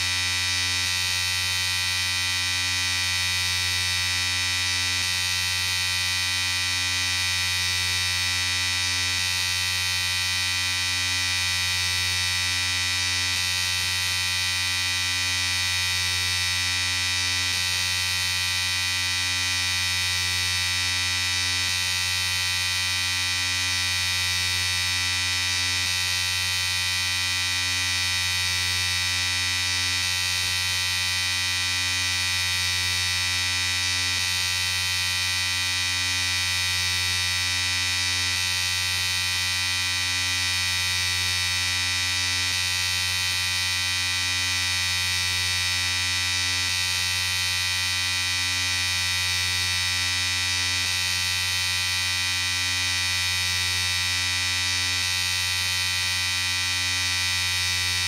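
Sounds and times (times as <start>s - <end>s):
electric shaver buzzing: 0.0s - 58.0s.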